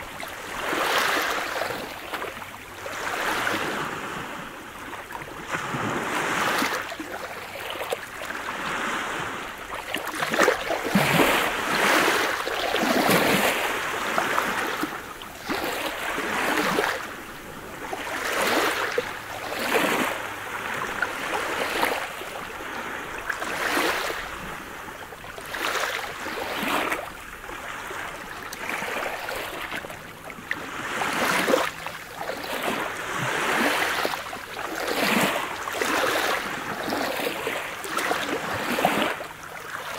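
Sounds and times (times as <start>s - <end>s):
waves lapping on pebble beach: 0.0s - 39.9s.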